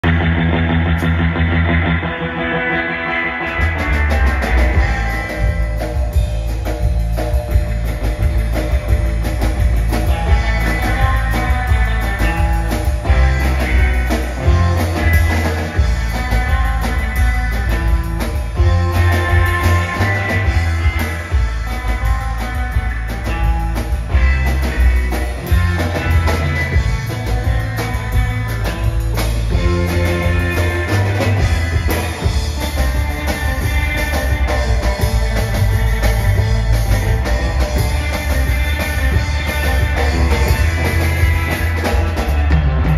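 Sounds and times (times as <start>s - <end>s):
drum kit: 0.0s - 42.9s
twangy electric guitar: 0.0s - 42.9s
upright double bass: 3.6s - 42.9s.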